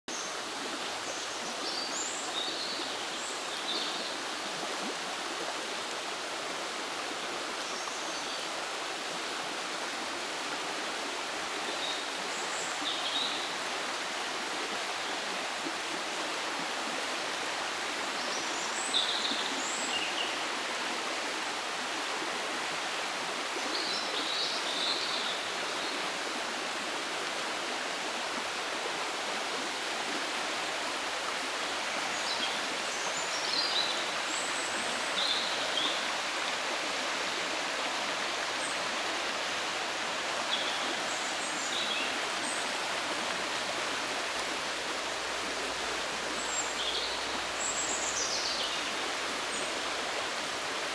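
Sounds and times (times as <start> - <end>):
fast-flowing river rushing: 0.1 - 50.9.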